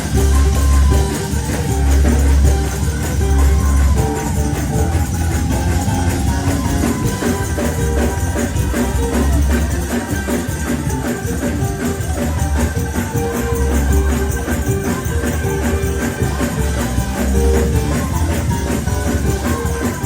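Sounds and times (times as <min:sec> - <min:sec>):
drums: 0:00.0 - 0:20.0
heavy bass: 0:00.0 - 0:20.0
held chords: 0:00.0 - 0:20.0
tambourines shaken fast: 0:00.0 - 0:20.0.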